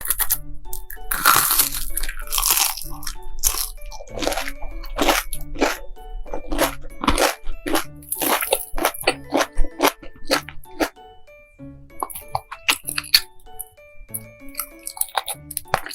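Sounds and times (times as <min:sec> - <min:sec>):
person chewing crunchy food: 0:00.0 - 0:11.0, 0:11.9 - 0:15.9
background music: 0:00.0 - 0:15.9.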